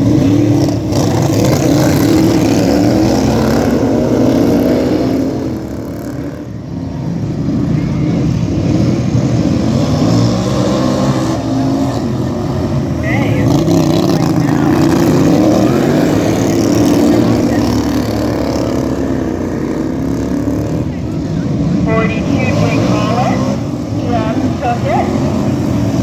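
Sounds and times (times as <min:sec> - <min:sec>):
lawn tractor engines revving: 0:00.0 - 0:26.0.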